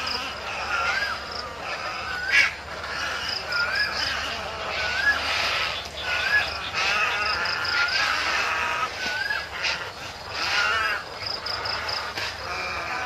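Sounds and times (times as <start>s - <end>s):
harsh bird squawks: 0.0s - 13.0s
rapid high ticking bird notes: 0.0s - 13.0s.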